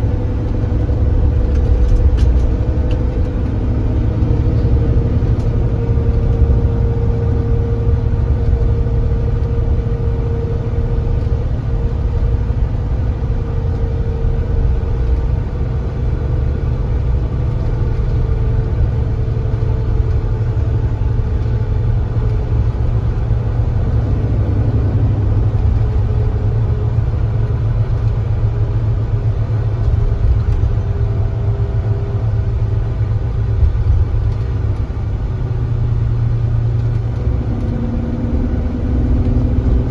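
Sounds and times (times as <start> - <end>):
coach diesel engine running: 0.0 - 39.9.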